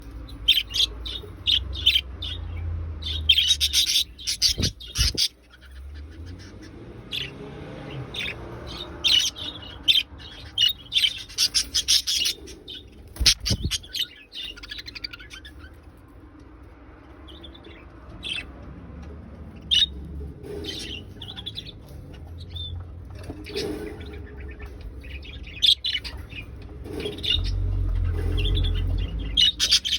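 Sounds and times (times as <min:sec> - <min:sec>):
budgerigars chirping and warbling: 0:00.0 - 0:29.9.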